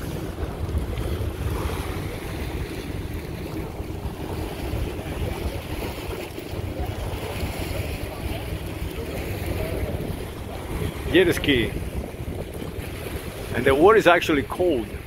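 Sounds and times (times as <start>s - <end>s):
choppy water: 0.0s - 15.0s
wind buffeting microphone: 0.0s - 15.0s.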